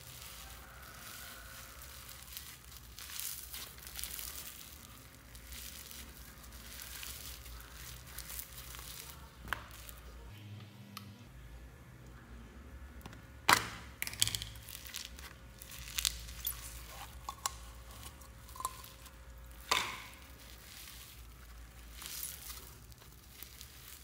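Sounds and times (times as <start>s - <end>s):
slime crackling and squishing: 0.0s - 10.3s, 13.6s - 24.0s.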